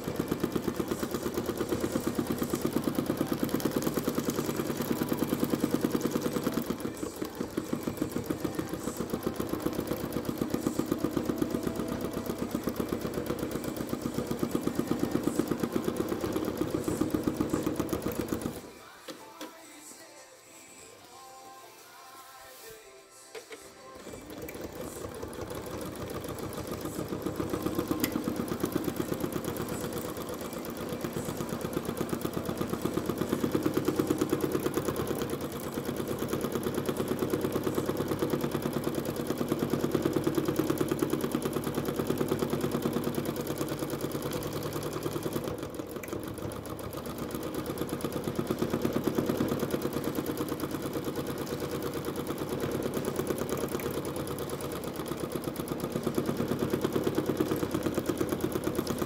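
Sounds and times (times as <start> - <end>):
sewing machine needle clatter: 0.0 - 19.5, 23.4 - 59.0.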